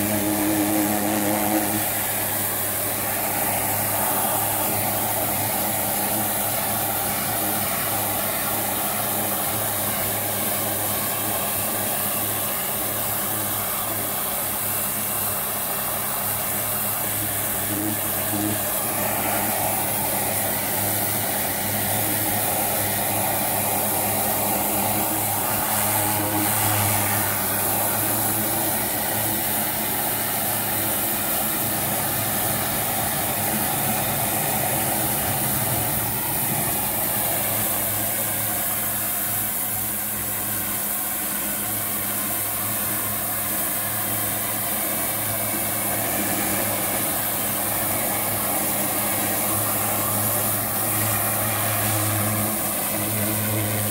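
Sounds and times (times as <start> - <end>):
motor and pump hum: 0.0 - 53.9
water jet spraying brick: 0.0 - 53.9.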